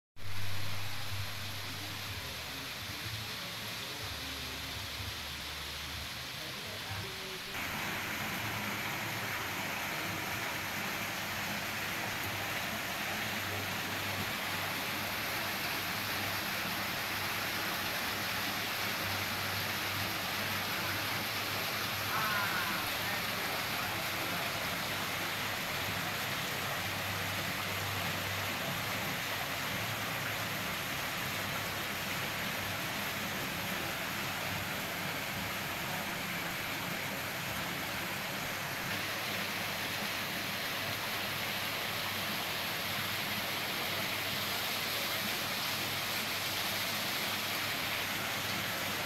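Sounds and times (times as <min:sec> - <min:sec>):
waterfall splashing into pond: 0:00.2 - 0:49.0.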